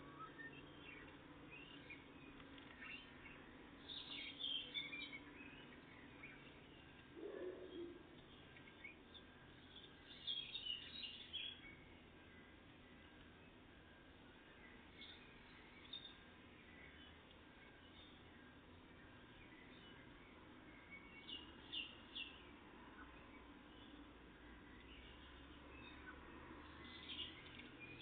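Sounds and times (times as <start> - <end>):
faint steady hum: 0.0 - 28.0
songbirds chirping: 0.0 - 28.0.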